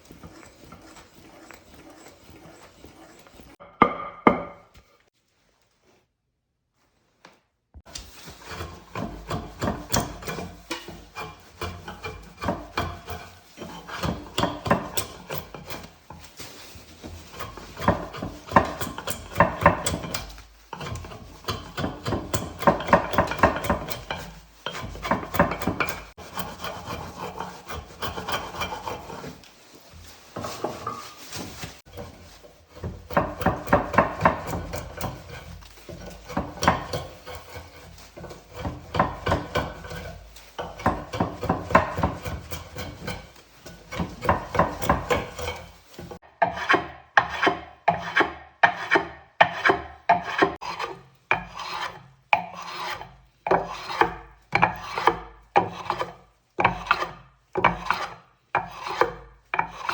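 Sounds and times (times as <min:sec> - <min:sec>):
hand tool rasping wood: 0:00.0 - 0:03.6, 0:07.9 - 0:59.9.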